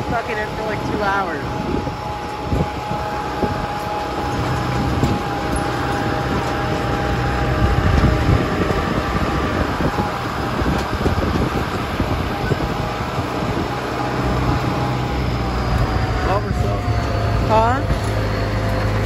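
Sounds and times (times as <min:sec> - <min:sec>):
tractor engine running: 0:00.0 - 0:19.0
wagon rumbling and rattling: 0:00.0 - 0:19.0.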